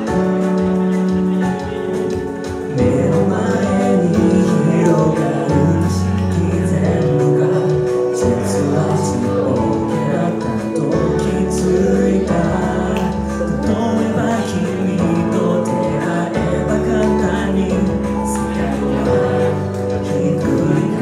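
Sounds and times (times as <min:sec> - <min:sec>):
held bass notes: 0:00.0 - 0:21.0
instrumental accompaniment: 0:00.0 - 0:21.0
man singing into a microphone: 0:00.0 - 0:21.0.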